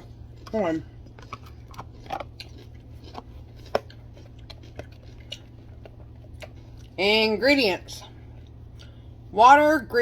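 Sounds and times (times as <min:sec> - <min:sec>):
chewing crunchy vegetable: 0:00.0 - 0:09.1.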